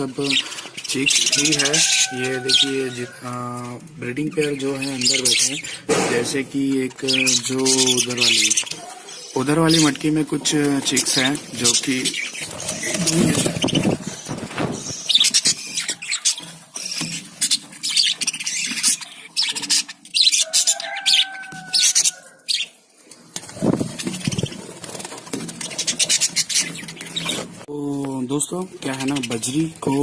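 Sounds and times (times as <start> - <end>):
budgerigars chattering: 0.0 - 22.8, 23.5 - 27.5, 28.8 - 30.0.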